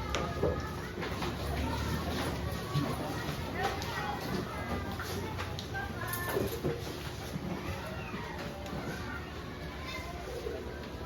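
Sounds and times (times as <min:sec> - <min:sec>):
faint children's voices: 0:00.0 - 0:11.0.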